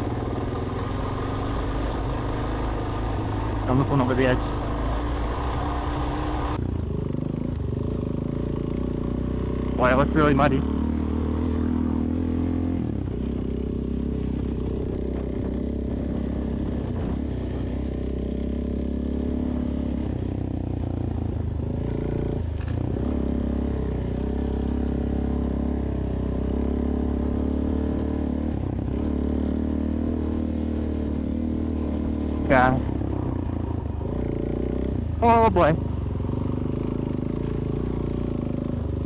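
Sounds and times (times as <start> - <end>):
motorcycle engine running at low revs: 0.0 - 39.0.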